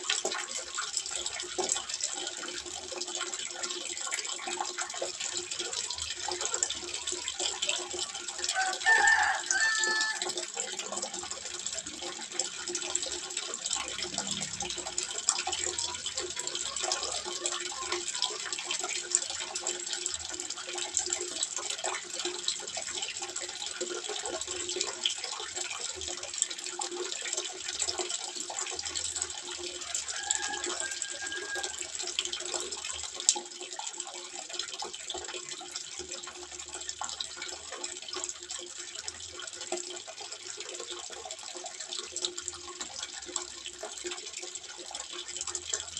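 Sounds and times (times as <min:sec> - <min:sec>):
water trickling into pond: 0:00.0 - 0:45.9.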